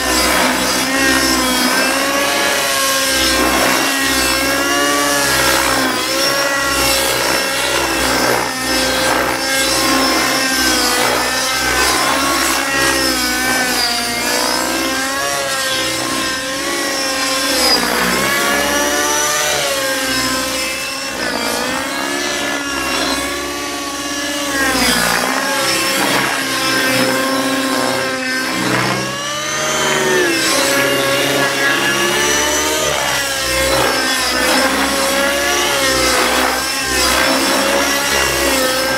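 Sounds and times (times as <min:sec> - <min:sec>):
model helicopter engine and rotor: 0:00.0 - 0:38.9.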